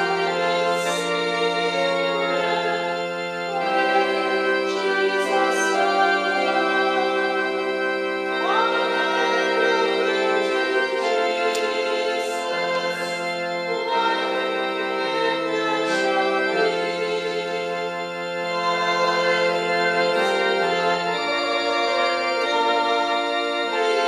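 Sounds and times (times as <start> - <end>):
congregation singing: 0.0 - 24.0
organ playing a hymn: 0.0 - 24.0.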